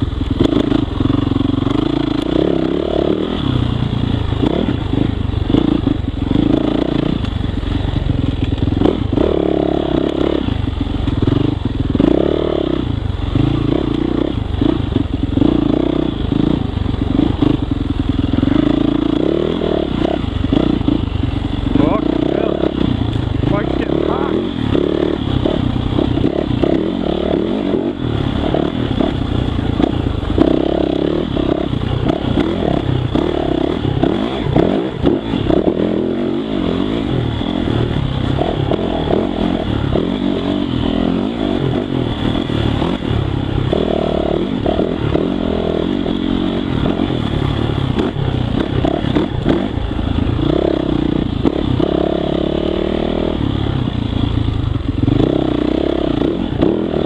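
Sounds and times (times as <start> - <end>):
motorcycle engine revving under load: 0.0 - 57.0.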